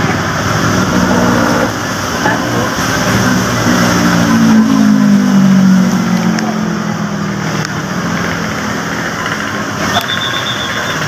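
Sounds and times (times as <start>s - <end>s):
passing vehicle engine hum: 0.0s - 11.0s
steady traffic noise: 0.0s - 11.0s.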